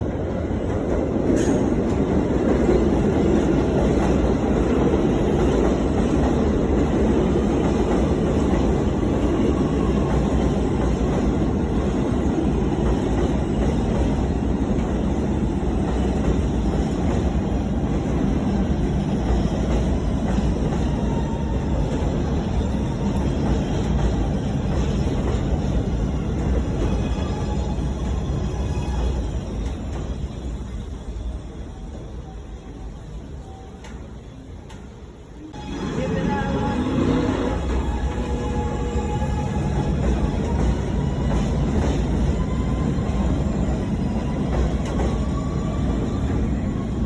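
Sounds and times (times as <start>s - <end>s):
train wheels on rail: 0.0s - 47.0s.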